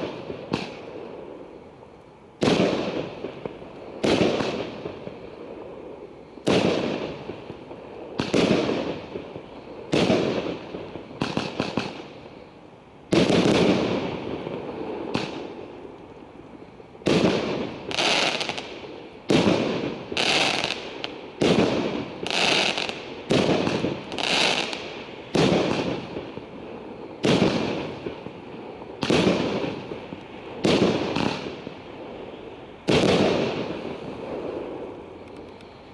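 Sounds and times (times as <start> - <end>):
fireworks bangs: 0.0 - 1.1, 2.4 - 5.5, 6.4 - 12.4, 13.1 - 15.9, 17.0 - 35.0.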